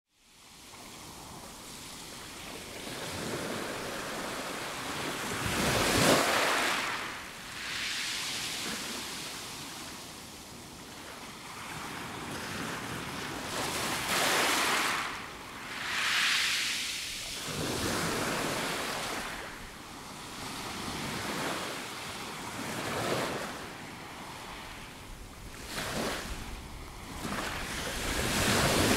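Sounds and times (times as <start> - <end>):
small waves on pebble beach: 0.4 - 28.9.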